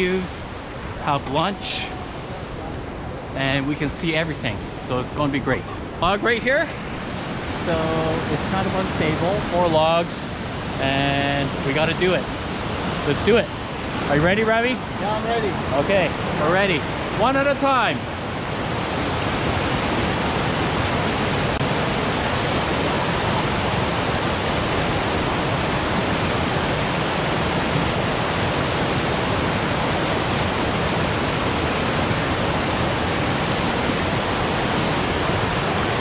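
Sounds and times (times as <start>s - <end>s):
creek water rushing: 0.0s - 36.0s.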